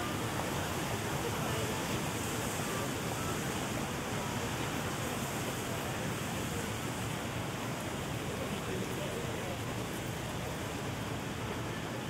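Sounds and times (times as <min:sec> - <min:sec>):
rain on wet street: 0:00.0 - 0:12.0.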